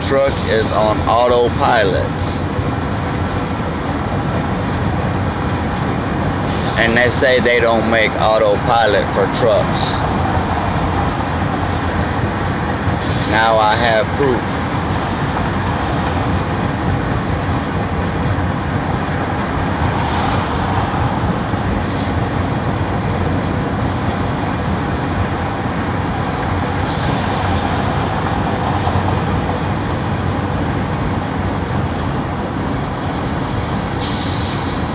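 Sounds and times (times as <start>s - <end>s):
road noise: 0.0s - 34.9s
truck engine drone: 0.0s - 34.9s.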